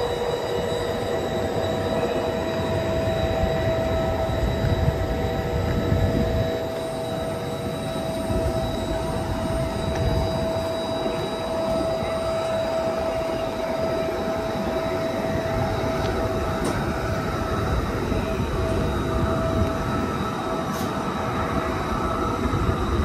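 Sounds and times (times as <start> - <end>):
constant whine: 0.0 - 23.0
train wheels rumbling on rails: 0.0 - 23.0.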